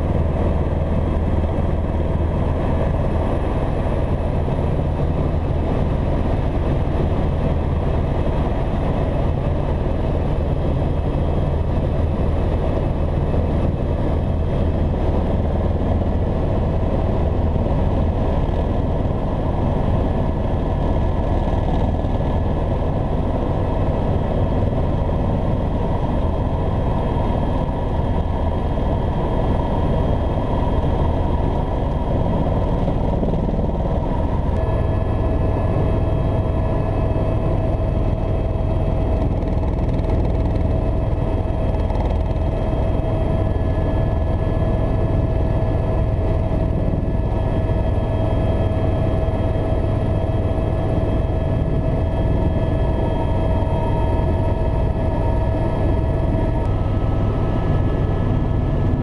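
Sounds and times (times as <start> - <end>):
helicopter rotor rumble: 0.0 - 59.0
helicopter engine whining tones: 9.8 - 59.0.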